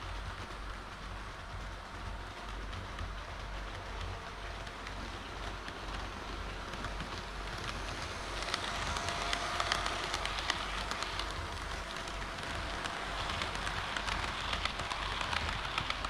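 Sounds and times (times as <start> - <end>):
model train wheels rolling on rail: 0.0 - 16.0
sharp clicks of wheels on rail joints: 0.0 - 16.0.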